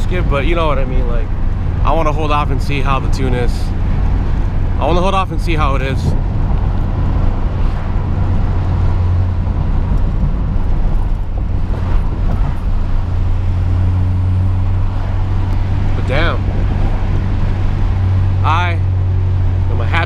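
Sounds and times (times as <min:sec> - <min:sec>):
car engine droning: 0:00.0 - 0:20.0
road noise: 0:00.0 - 0:20.0.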